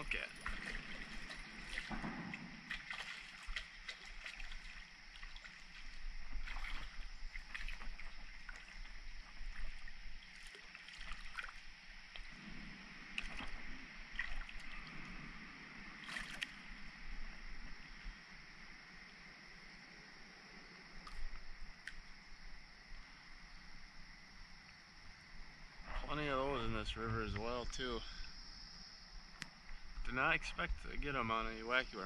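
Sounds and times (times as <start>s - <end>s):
water splashing and sloshing: 0.0s - 28.4s.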